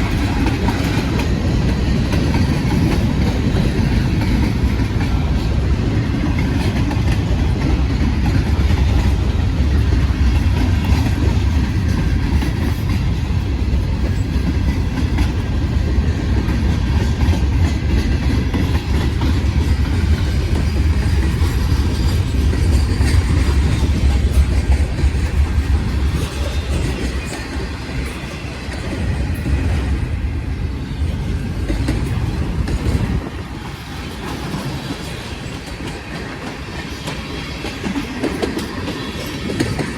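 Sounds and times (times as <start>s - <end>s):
wheels clacking over rail joints: 0.0s - 30.0s, 31.1s - 39.9s
freight train rumbling past: 0.0s - 39.9s.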